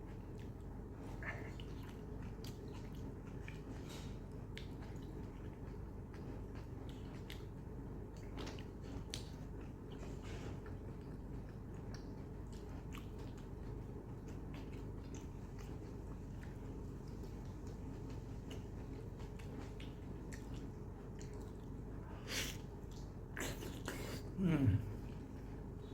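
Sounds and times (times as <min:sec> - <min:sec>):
steady low hum: 0:00.0 - 0:25.9
wet chewing: 0:00.1 - 0:24.3.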